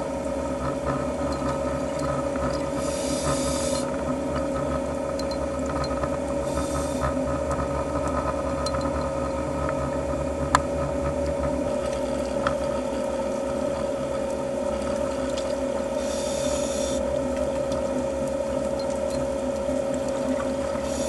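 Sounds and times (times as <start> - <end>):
steady underwater hum: 0.0 - 21.0.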